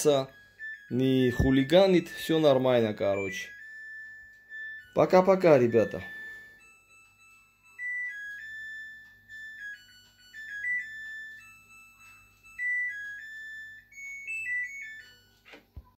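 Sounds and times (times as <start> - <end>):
washing machine beeping melody: 0.0 - 15.9.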